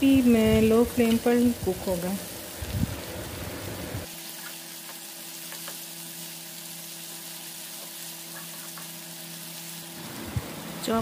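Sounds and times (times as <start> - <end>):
onions sizzling in a frying pan: 0.0 - 11.0.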